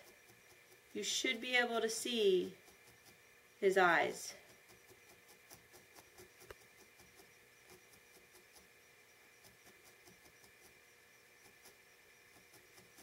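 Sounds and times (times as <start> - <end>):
faint hum: 0.0 - 13.0
felting needle ticks: 0.0 - 13.0.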